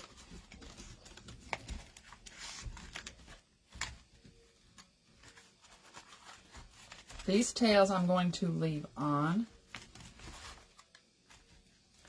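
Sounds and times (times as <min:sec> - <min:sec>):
fabric ribbon rustling: 0:00.0 - 0:08.3, 0:09.3 - 0:12.0.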